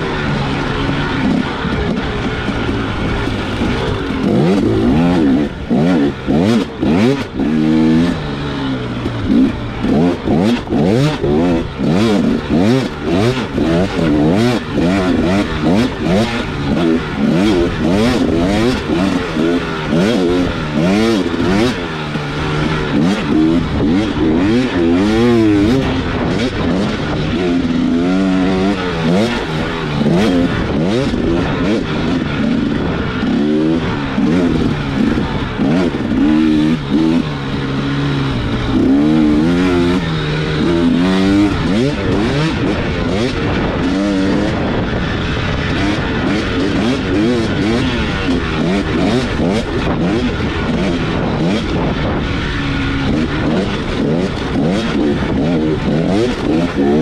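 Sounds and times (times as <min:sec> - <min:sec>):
dirt bike engine revving: 0:00.0 - 0:57.0
knocks and rattles on rough ground: 0:00.0 - 0:57.0.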